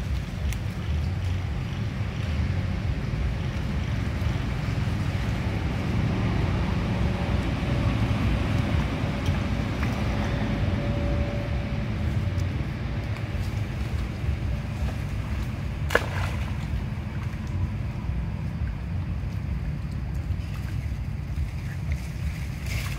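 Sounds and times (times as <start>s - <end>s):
wind rumble on microphone: 0.0s - 22.9s.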